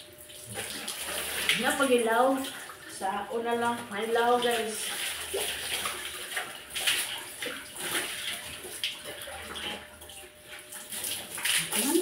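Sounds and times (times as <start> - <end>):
water splashing on tiled floor: 0.2 - 2.8, 3.7 - 12.0
water splashing into plastic basin: 0.2 - 2.9, 3.6 - 12.0.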